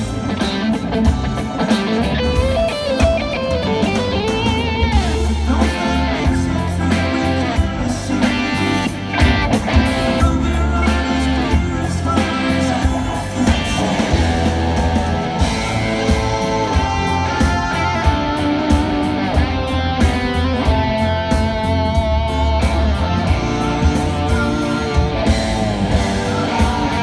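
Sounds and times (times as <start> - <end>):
electric guitar bending notes: 0.0 - 27.0
rock band playing live: 0.0 - 27.0.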